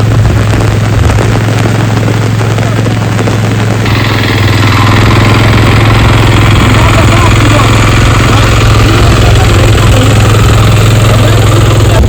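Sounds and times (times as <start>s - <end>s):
hissing noise: 0.0s - 12.0s
motor engine humming: 0.0s - 12.0s.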